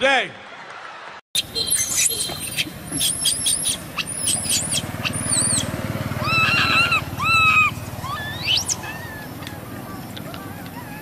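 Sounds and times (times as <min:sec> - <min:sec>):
infant monkey crying: 0:01.4 - 0:11.0.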